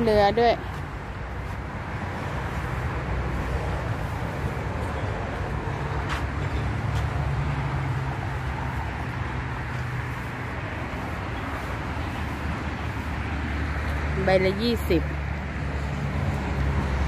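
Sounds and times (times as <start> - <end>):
motor vehicle engine rumble: 0.0 - 17.0.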